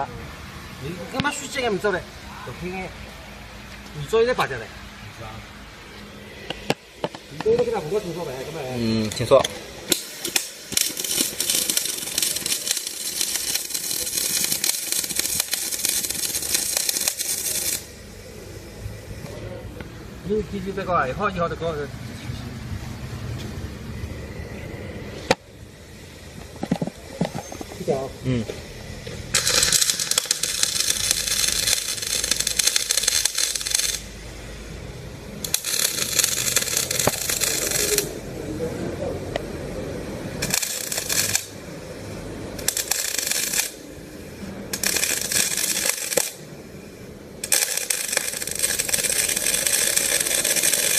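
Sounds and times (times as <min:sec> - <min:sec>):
arc welding crackle: 0:00.0 - 0:50.9.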